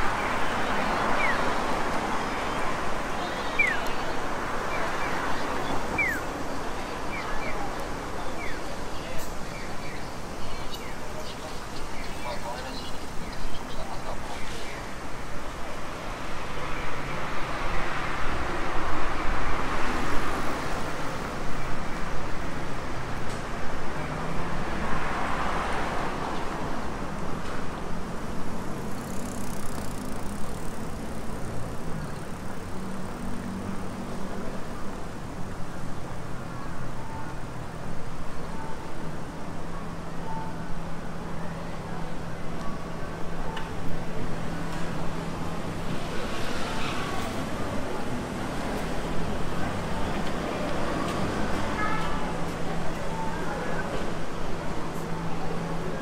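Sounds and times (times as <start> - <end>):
cars passing: 0.0 - 56.0
steady low traffic hum: 0.0 - 56.0.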